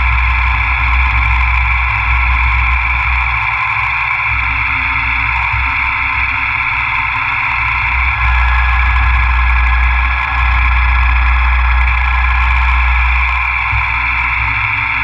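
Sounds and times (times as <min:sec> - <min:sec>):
milling machine rumble: 0:00.0 - 0:15.0
milling machine spindle whine: 0:00.0 - 0:15.0.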